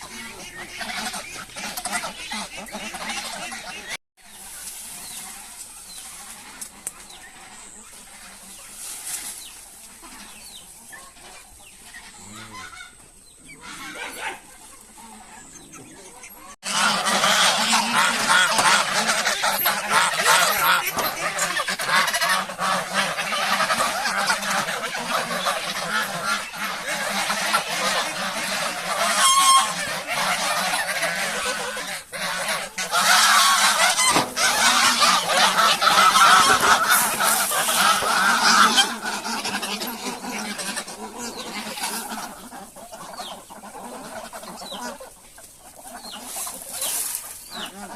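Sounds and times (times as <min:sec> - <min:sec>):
faint farmyard sounds: 0:00.0 - 0:47.9
flock of poultry calling: 0:00.0 - 0:47.9.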